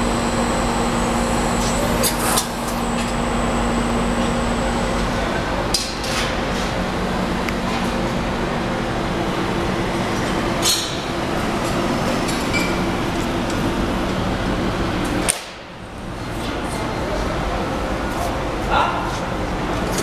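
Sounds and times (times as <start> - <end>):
machine hum: 0.0 - 18.6.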